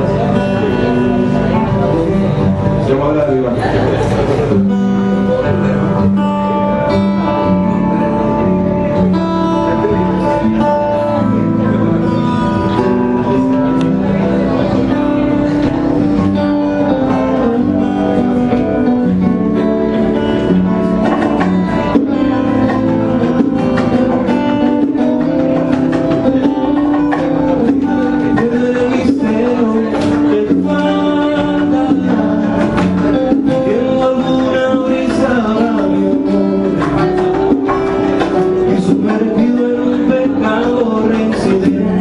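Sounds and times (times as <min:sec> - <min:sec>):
acoustic guitar strumming: 0:00.0 - 0:42.0
bass guitar: 0:00.0 - 0:42.0
electric guitar: 0:00.0 - 0:42.0
man singing: 0:00.0 - 0:42.0
hand percussion: 0:04.0 - 0:42.0.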